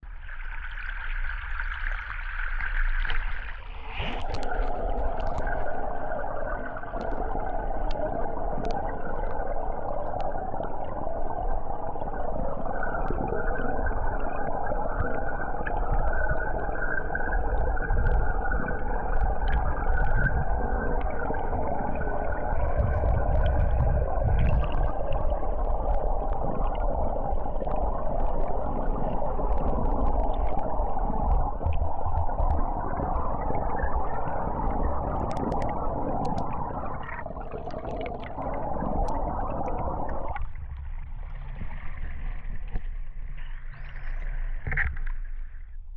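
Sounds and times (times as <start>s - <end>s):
underwater churning water and bubbles: 0.0s - 45.9s.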